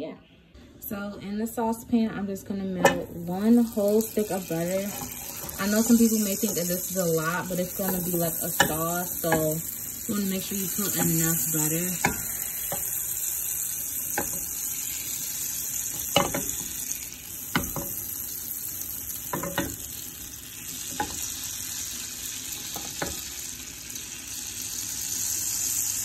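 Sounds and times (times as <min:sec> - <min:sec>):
butter sizzling in a frying pan: 0:02.8 - 0:26.0.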